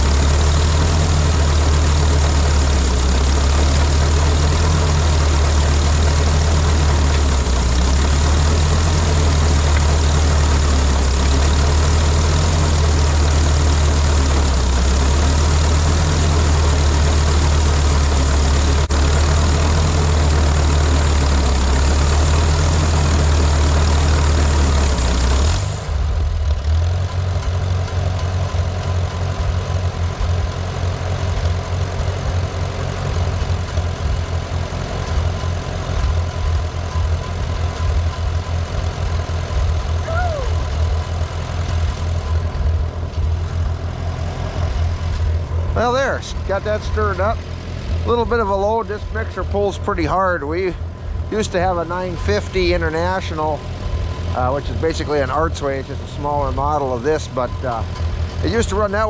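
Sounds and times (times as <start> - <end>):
engine uneven pulsing idle: 0.0 - 59.0
tractor engine running under load: 0.0 - 59.0.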